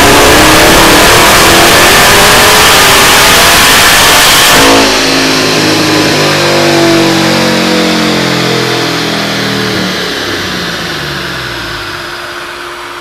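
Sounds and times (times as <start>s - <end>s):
engine roaring then winding down: 0.0s - 13.0s.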